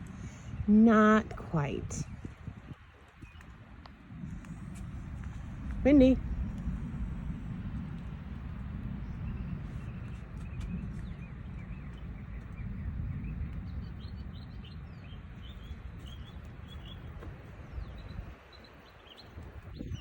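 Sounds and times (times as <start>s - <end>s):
wind noise on microphone: 0.0s - 20.0s
small birds chirping: 0.2s - 6.2s, 8.6s - 20.0s.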